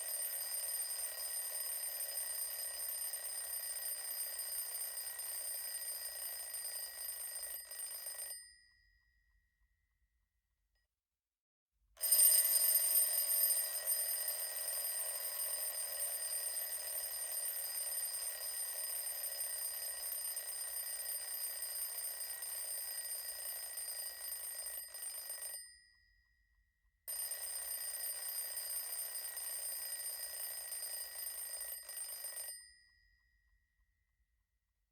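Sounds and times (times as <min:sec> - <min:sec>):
alarm clock bell ringing: 0:00.0 - 0:08.8, 0:12.0 - 0:25.9, 0:27.1 - 0:33.2.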